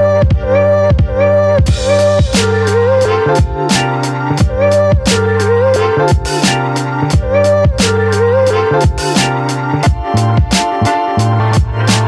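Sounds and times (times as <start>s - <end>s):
deep bass line: 0.0s - 12.0s
music with steady drum beat: 1.6s - 12.0s.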